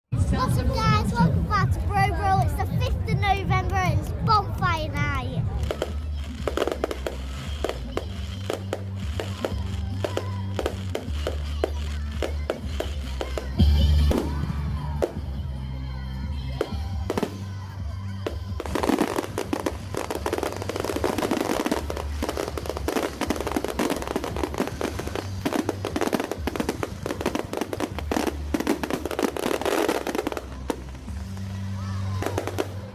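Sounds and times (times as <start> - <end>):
background music with steady bass: 0.1 - 32.9
firework bursts crackling and popping: 5.3 - 15.4, 16.3 - 32.9.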